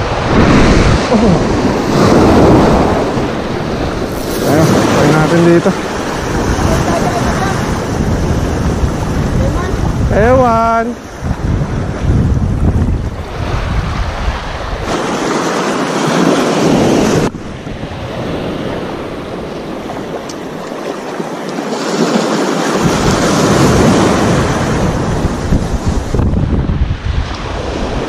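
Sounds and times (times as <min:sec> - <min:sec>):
waves breaking on rocky shore: 0:00.0 - 0:28.0
wind buffeting microphone: 0:00.0 - 0:28.0.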